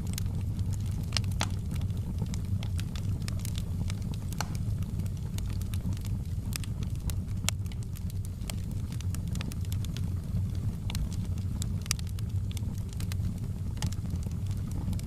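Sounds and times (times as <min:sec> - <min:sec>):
campfire popping and crackling: 0:00.0 - 0:15.0.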